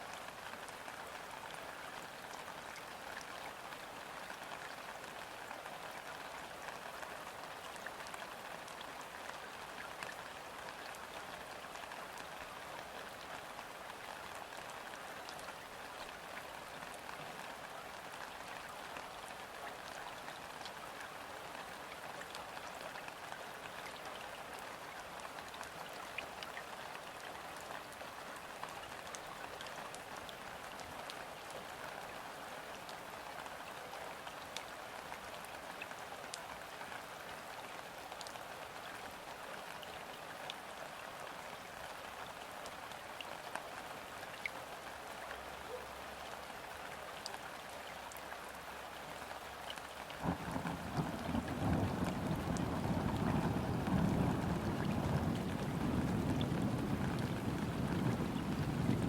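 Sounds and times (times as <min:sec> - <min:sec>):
light rain on water: 0:00.0 - 0:59.0
raindrops ticking close by: 0:00.0 - 0:59.0.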